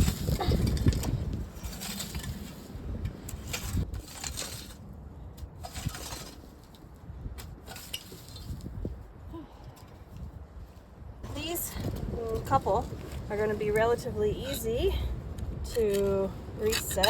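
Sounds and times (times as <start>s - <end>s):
hoe scraping soil and stones: 0.0s - 9.0s, 11.2s - 17.0s.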